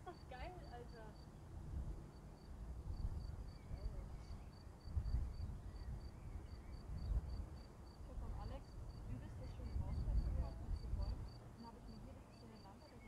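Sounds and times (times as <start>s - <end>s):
insect chirping: 0.0s - 13.0s
wind buffeting microphone: 0.4s - 12.6s.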